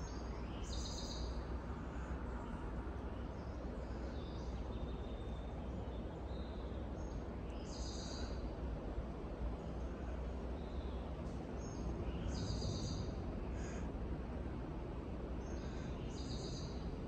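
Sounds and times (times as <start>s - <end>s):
low rumbling background: 0.0s - 17.0s.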